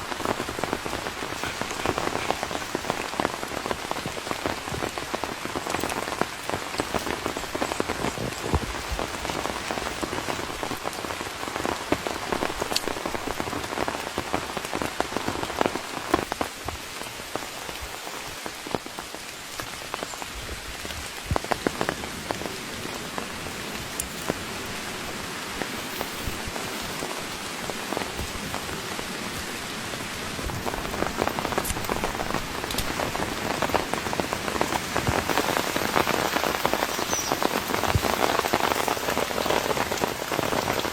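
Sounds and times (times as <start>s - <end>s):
raindrops tapping close by: 0.0s - 40.9s
steady rain falling: 0.0s - 40.9s.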